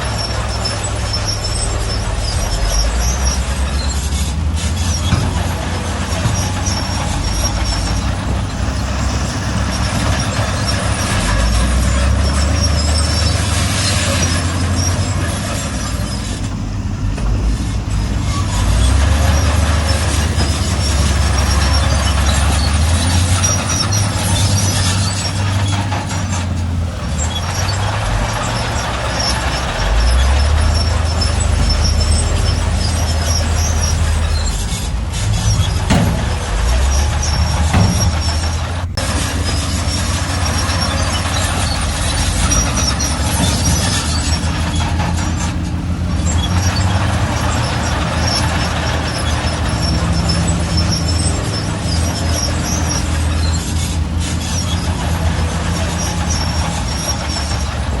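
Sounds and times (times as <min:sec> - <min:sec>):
diesel earthmoving machinery: 0:00.0 - 0:58.0.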